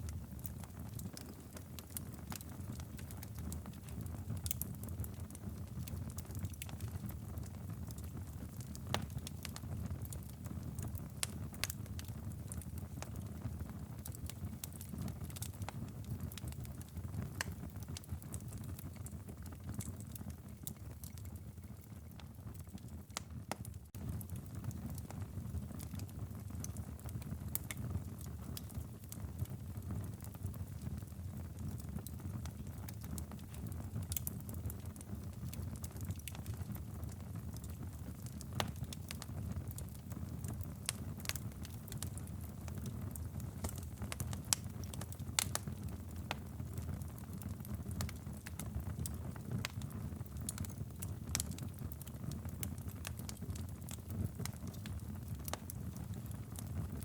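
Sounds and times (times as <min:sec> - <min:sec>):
fire crackling and popping: 0:00.0 - 0:57.0
low rumble of flame: 0:00.0 - 0:57.0.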